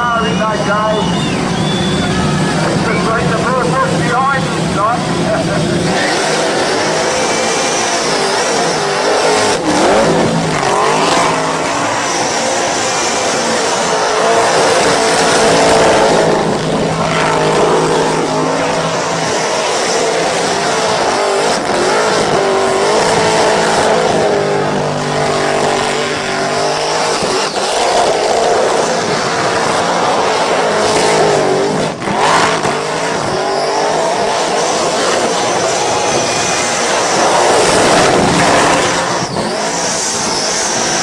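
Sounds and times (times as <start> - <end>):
car engine at high revs: 0.0 - 41.0
spinning tyres squealing: 0.0 - 41.0.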